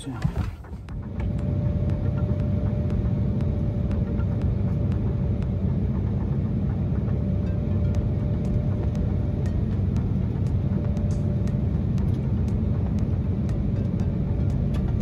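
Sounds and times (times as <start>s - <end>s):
jet engine and airflow rumble: 0.0s - 15.0s.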